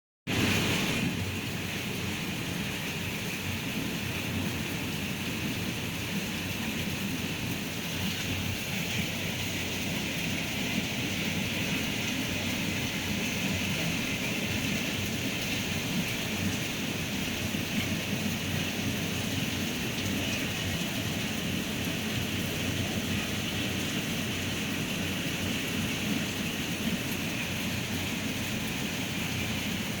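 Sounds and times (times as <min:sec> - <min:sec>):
heavy rain: 0:00.3 - 0:30.0
strong wind: 0:00.3 - 0:30.0.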